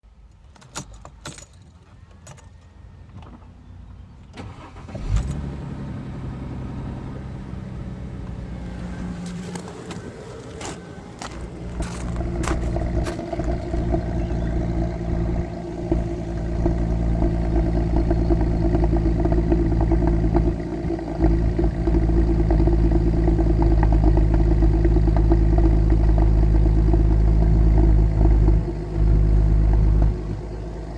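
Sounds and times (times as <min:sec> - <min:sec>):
car engine cranking and running: 0:00.1 - 0:30.9
engine rattling: 0:00.1 - 0:30.9.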